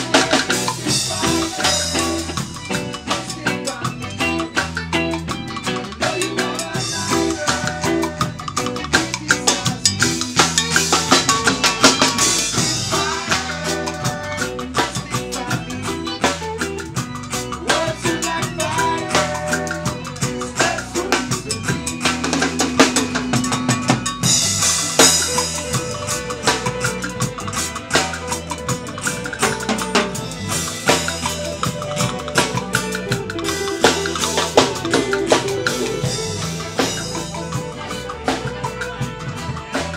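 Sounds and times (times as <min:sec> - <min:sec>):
drumming: 0:00.0 - 0:39.9
electric guitar: 0:00.0 - 0:39.9
live band playing: 0:00.0 - 0:39.9.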